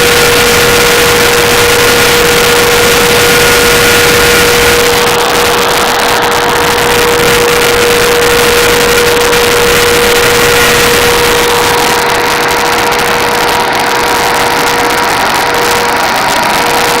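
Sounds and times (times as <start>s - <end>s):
industrial fan whining: 0.0s - 17.0s.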